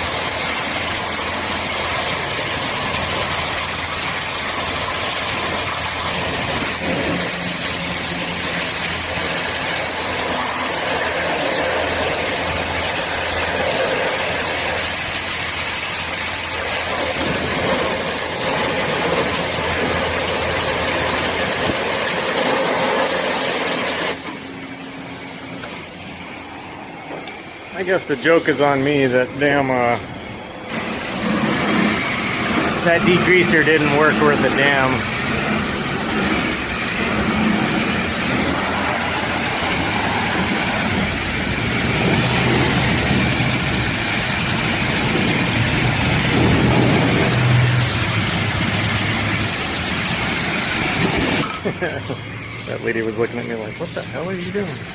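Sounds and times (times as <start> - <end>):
low motor hum: 0.0 - 54.9
pressure washer spraying: 0.0 - 54.9.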